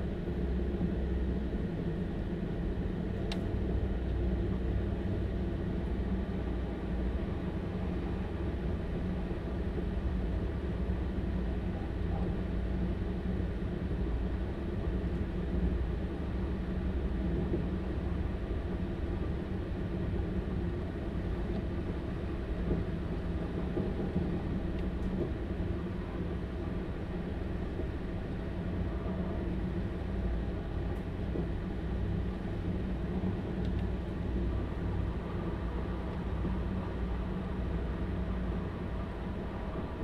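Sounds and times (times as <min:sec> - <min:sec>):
faint engine hum: 0:00.0 - 0:40.0
train running rumble: 0:00.0 - 0:40.0.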